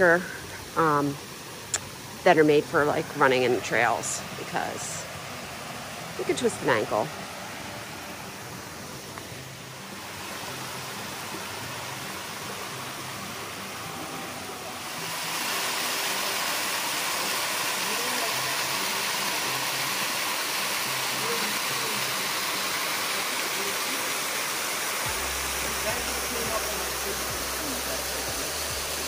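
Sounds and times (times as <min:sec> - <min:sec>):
small waterfall rushing: 0:00.0 - 0:29.0.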